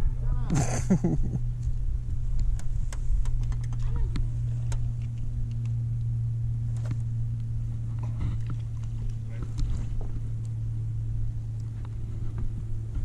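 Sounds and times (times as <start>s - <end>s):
electric trolling motor hum: 0.0s - 13.0s.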